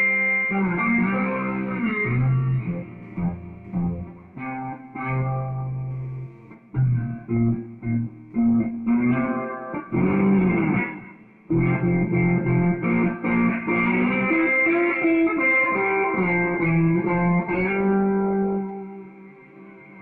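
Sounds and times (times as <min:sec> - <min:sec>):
slide electric guitar: 0:00.0 - 0:20.0.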